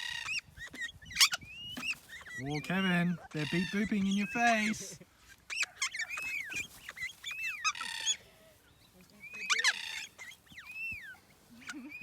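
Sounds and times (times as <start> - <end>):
cockatoo screeches: 0.0 - 4.8, 5.4 - 8.2, 9.3 - 12.0
cockatoos chirping: 0.0 - 12.0.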